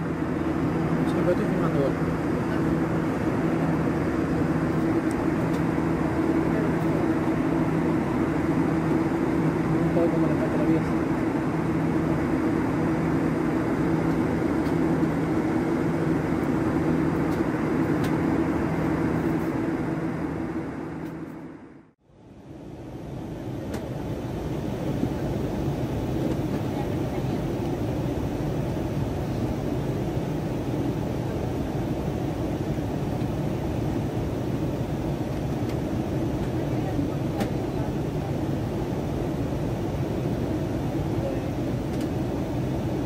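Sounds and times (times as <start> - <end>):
jet engine drone: 0.0 - 43.0
low hum: 0.0 - 43.0.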